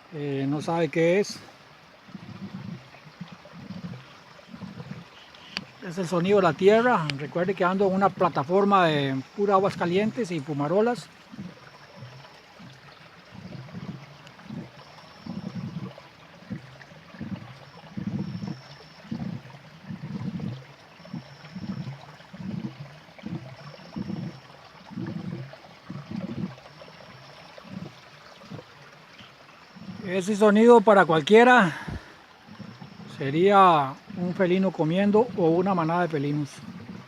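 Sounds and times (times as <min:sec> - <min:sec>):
geothermal vent gurgling and bubbling: 0:00.0 - 0:37.0.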